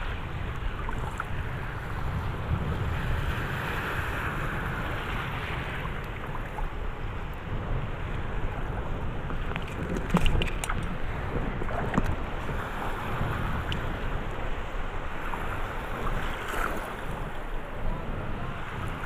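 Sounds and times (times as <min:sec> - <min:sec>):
wind buffeting microphone: 0:00.0 - 0:19.0
small waves splashing: 0:00.1 - 0:19.0.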